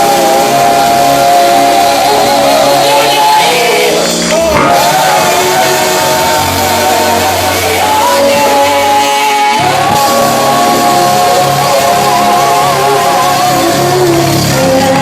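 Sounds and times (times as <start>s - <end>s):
bass line: 0.0s - 15.0s
gospel group singing: 0.0s - 15.0s.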